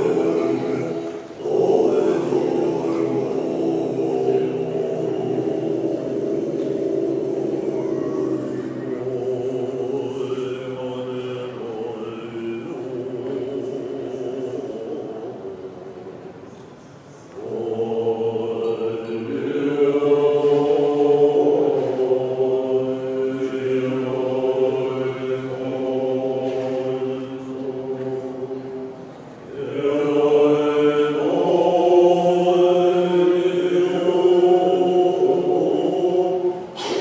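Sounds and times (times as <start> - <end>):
monks chanting in low voices: 0.0 - 37.0.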